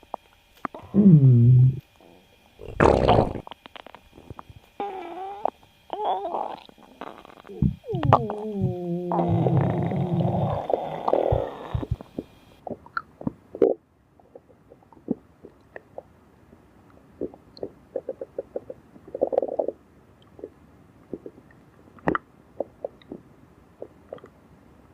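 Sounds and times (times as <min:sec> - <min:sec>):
stomach gurgling: 0:00.0 - 0:24.4.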